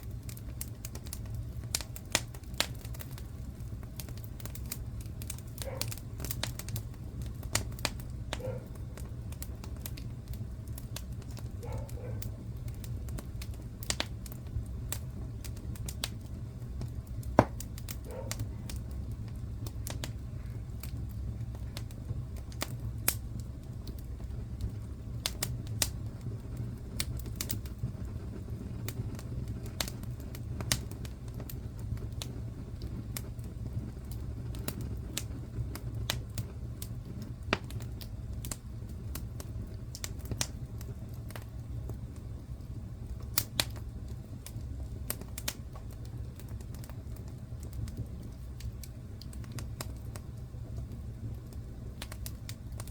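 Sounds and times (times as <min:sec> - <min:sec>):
low rumble of burning: 0:00.0 - 0:52.9
wood fire popping and snapping: 0:00.0 - 0:52.9.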